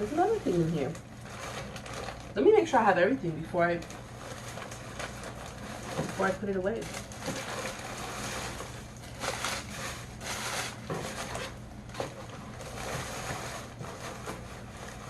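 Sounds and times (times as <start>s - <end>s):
packaging rustling and crinkling: 0.0s - 2.9s, 3.6s - 15.0s
low electrical hum: 0.0s - 15.0s.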